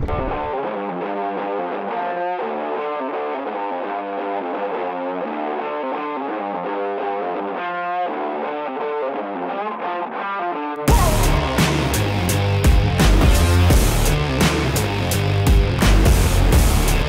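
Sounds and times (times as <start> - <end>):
distorted guitar chords: 0.0 - 17.0.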